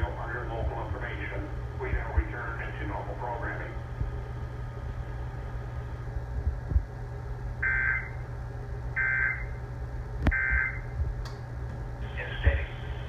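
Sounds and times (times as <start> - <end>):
low radio hum: 0.0 - 13.0.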